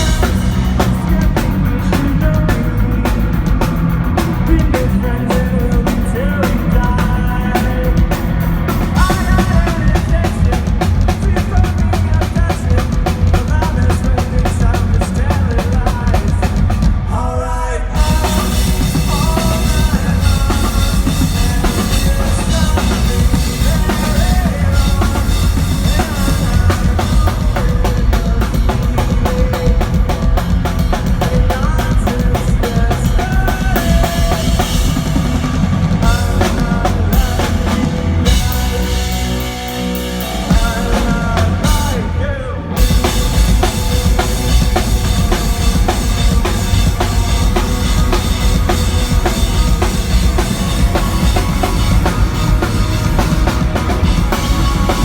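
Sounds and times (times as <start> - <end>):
driving drum kit: 0.0 - 55.0
pop-punk band playing live: 0.0 - 55.0.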